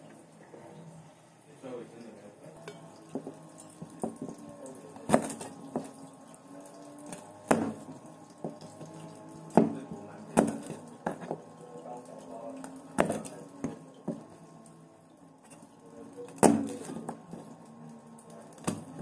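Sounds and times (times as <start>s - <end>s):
water running in sink: 1.6s - 19.0s.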